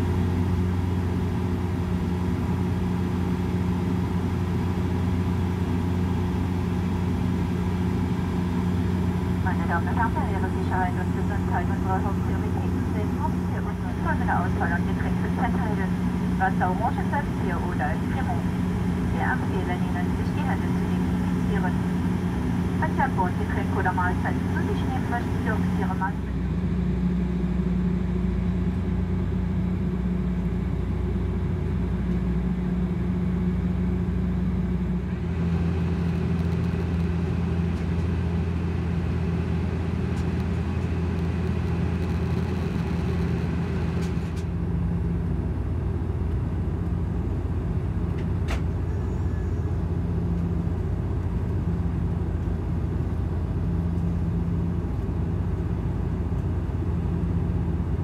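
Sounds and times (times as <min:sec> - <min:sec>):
turboprop cabin drone: 0:00.0 - 0:58.0.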